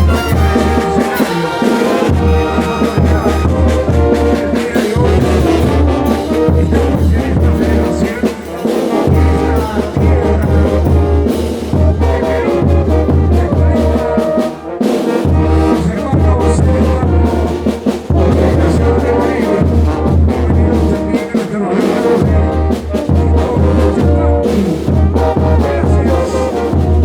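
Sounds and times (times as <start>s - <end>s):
brass band playing dance tune: 0.0s - 27.0s.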